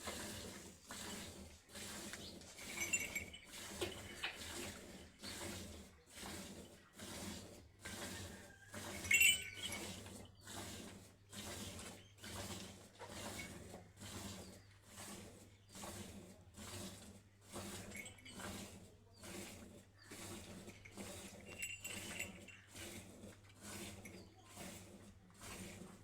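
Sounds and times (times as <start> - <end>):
low machine hum: 0.0 - 26.0
milking machine pulsator hiss: 0.0 - 26.0.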